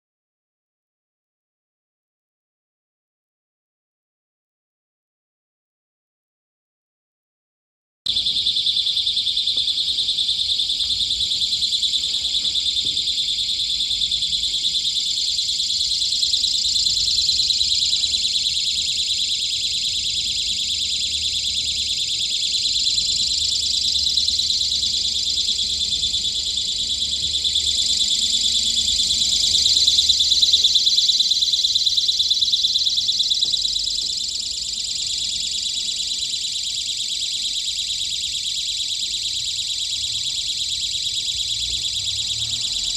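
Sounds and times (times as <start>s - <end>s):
high-pitched electronic alarm buzz: 8.1s - 42.9s.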